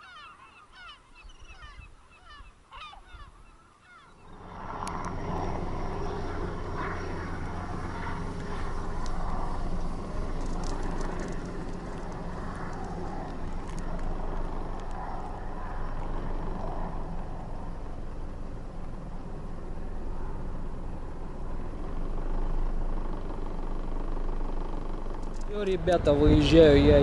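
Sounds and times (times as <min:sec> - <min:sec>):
car engine idling: 0:04.2 - 0:27.0.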